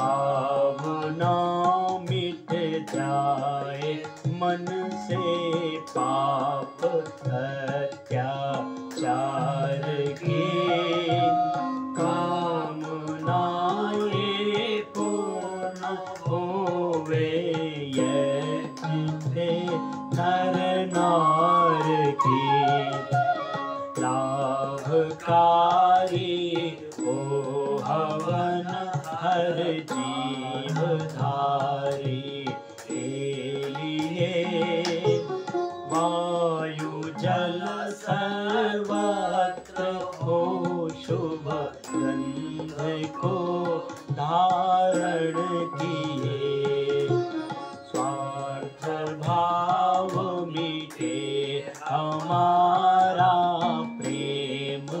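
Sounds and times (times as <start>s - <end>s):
man singing devotional song: 0.0s - 55.0s.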